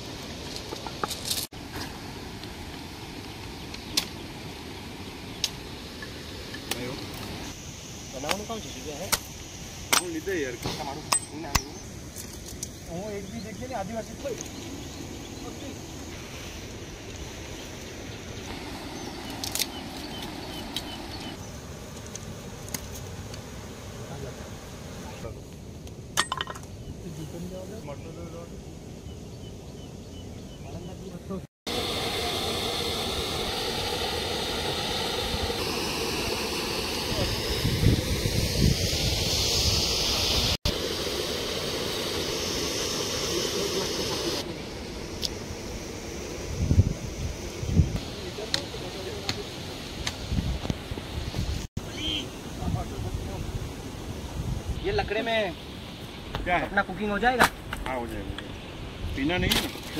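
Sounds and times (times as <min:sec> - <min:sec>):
steady rushing hiss: 0:00.0 - 0:30.0, 0:30.8 - 0:59.9.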